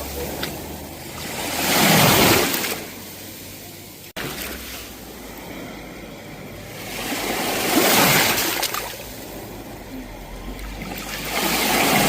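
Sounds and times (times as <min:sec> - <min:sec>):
sea waves breaking on shore: 0:00.0 - 0:12.0.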